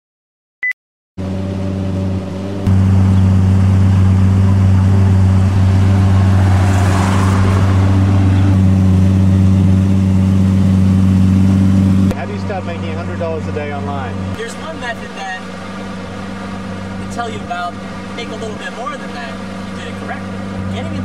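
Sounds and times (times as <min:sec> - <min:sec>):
car engine idling: 0:02.4 - 0:21.0.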